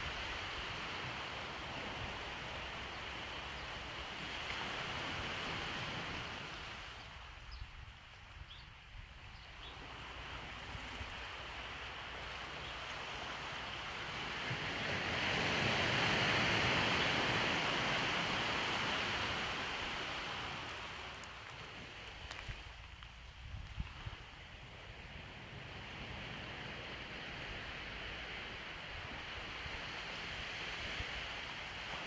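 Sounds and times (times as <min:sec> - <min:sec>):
small waves washing onto beach: 0:00.0 - 0:08.3, 0:09.0 - 0:32.0.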